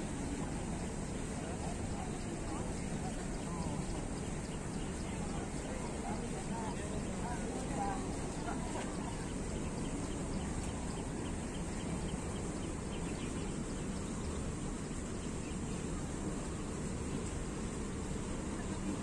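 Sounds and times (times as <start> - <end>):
low outdoor rumble: 0.0 - 19.0
faint bird chirps: 0.1 - 19.0.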